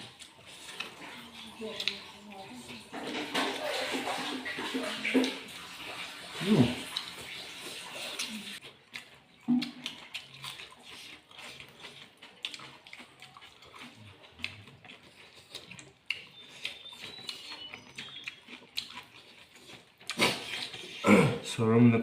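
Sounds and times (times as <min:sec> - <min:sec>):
people chewing and smacking food: 0:00.0 - 0:22.0.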